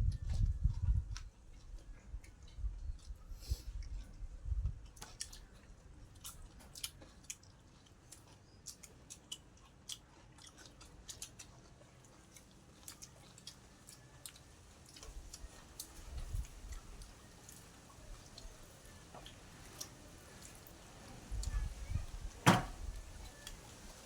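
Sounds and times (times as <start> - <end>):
person chewing food: 0.1 - 21.6.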